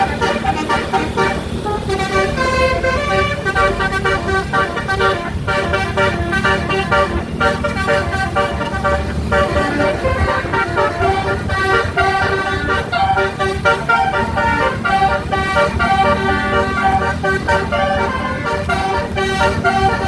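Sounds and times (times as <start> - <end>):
tuned air horns playing a melody: 0.0 - 20.0.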